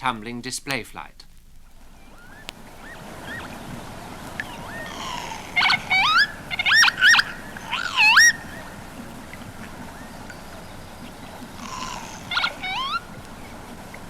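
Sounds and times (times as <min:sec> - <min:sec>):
lapwing calls: 0:01.0 - 0:14.0.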